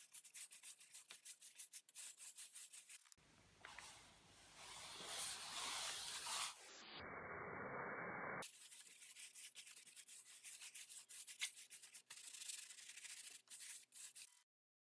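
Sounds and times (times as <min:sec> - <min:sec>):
paintbrush scrubbing canvas: 0:00.0 - 0:06.7, 0:08.4 - 0:14.4.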